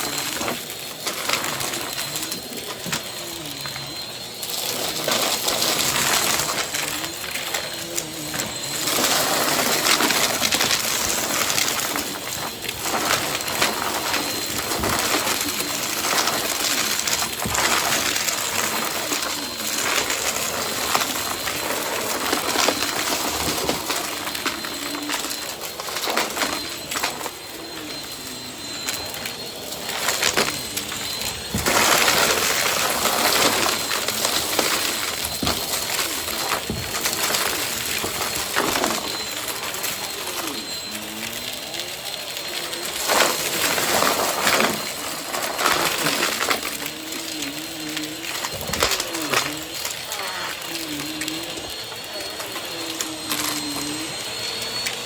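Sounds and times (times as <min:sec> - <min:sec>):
high motor whine: 0:00.0 - 0:55.0
vacuum cleaner on carpet: 0:00.0 - 0:55.0.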